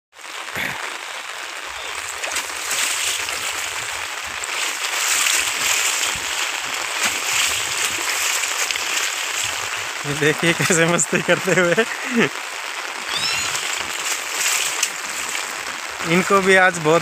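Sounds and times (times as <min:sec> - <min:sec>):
heavy rain on concrete roof: 0:00.1 - 0:17.0
bare feet splashing in water: 0:01.7 - 0:17.0.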